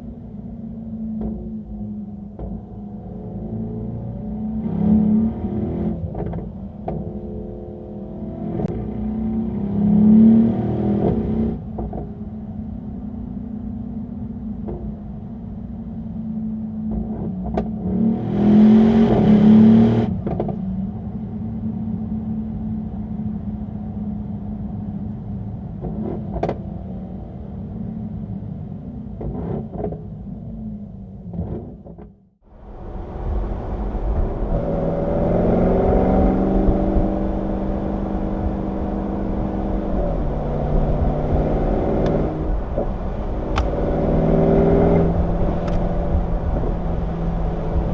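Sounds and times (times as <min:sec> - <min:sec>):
car engine accelerating hard: 0:00.0 - 0:47.9.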